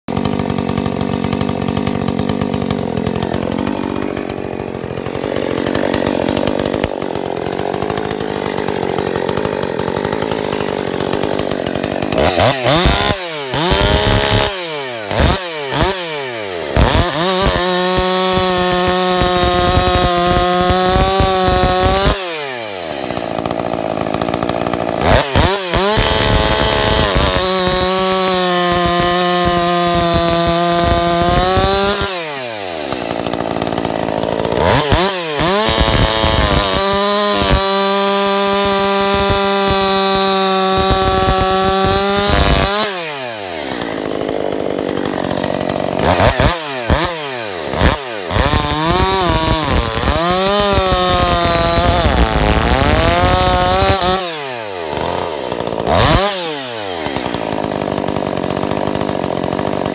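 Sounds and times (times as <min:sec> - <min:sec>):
chainsaw cutting log: 0:00.0 - 0:59.9
chainsaw idling and revving: 0:00.0 - 0:59.9.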